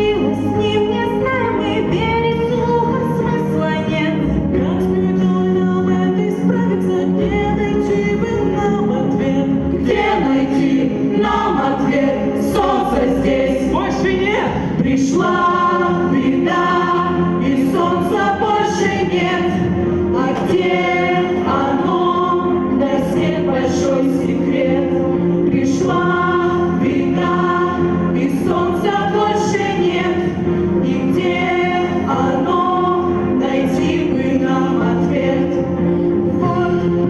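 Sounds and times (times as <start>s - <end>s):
group of voices singing: 0.0s - 37.0s
musical accompaniment: 0.0s - 37.0s.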